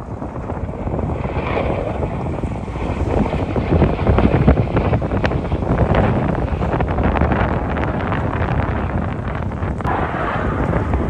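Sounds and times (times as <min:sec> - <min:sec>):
jet aircraft roar: 0:00.0 - 0:11.0
wind buffeting microphone: 0:00.0 - 0:11.0.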